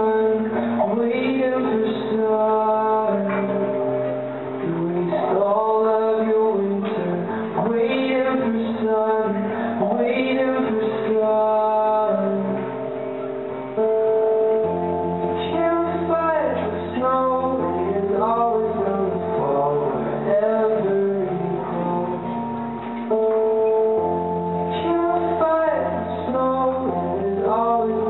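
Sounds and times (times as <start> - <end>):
acoustic guitar: 0.0 - 28.0
man singing: 0.0 - 28.0.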